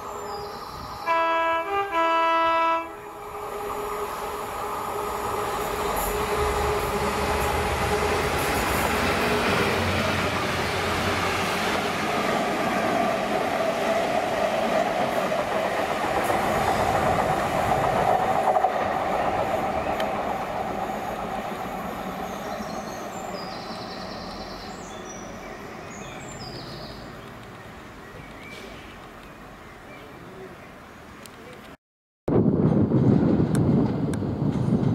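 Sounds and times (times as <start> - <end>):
rail rumble: 0.0 - 29.6, 32.3 - 34.9
diesel locomotives passing: 0.0 - 31.6.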